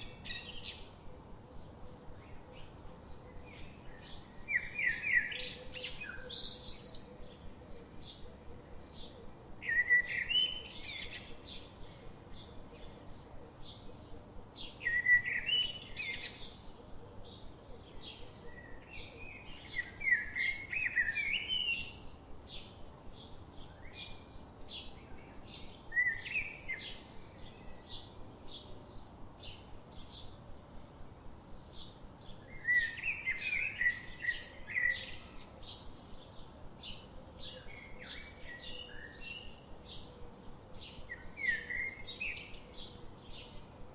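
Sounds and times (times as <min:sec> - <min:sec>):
faint steady hiss: 0:00.0 - 0:43.9.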